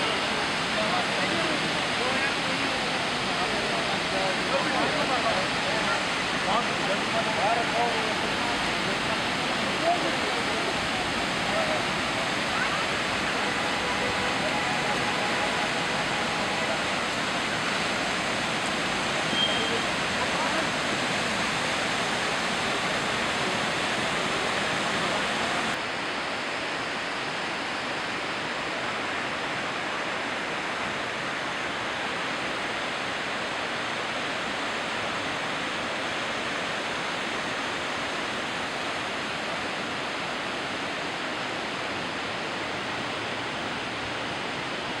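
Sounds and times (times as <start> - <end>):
river rushing in flood: 0.0 - 45.0.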